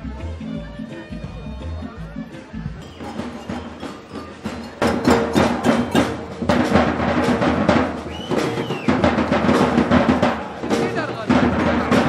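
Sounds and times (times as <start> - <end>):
drum group playing fast rhythm: 0.0 - 12.0.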